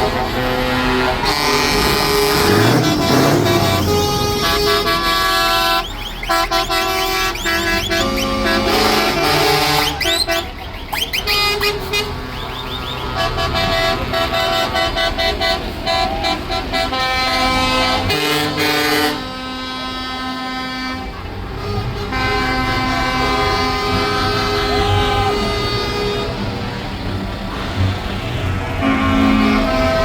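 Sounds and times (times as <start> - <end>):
idling engines rumbling: 0.0 - 30.0
truck air horns blaring: 0.0 - 30.0.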